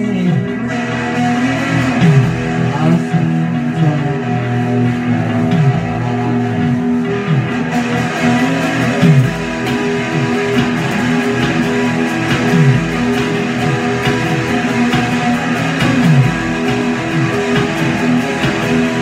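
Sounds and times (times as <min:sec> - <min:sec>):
electric guitar with slides: 0:00.0 - 0:19.0.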